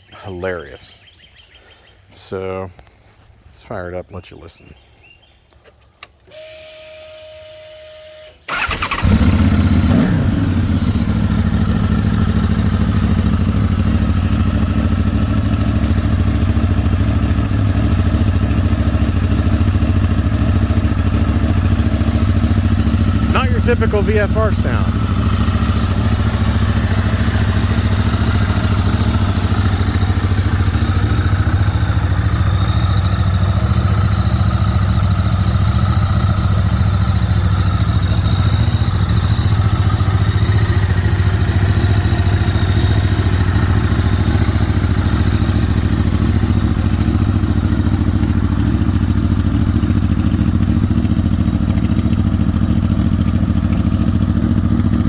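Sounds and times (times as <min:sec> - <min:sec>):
motorcycle engine idling: 0:08.4 - 0:55.0.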